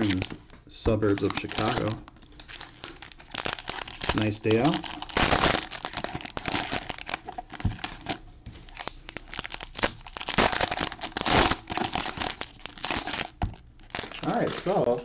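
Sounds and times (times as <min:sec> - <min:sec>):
wrappers crinkling and tearing: 0:00.0 - 0:15.0
loud wrapper rips: 0:01.1 - 0:15.0.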